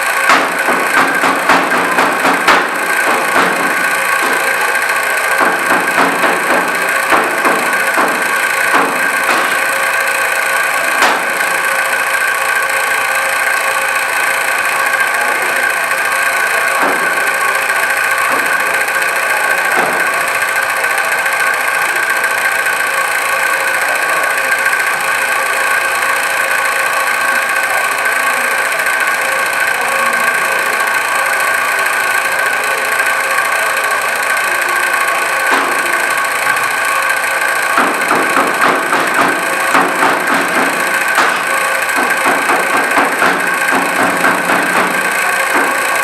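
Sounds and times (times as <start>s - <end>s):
loud machine hum: 0.0s - 46.0s.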